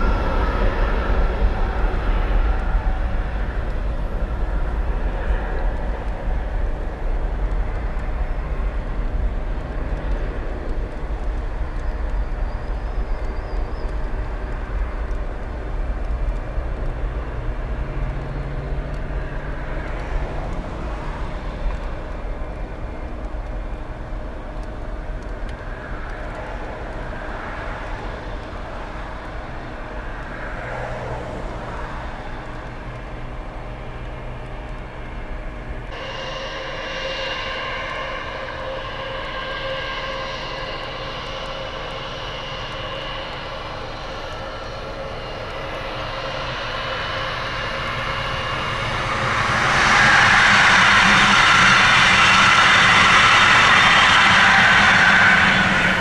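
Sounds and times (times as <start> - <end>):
jet engines roaring at takeoff: 0.0 - 56.0.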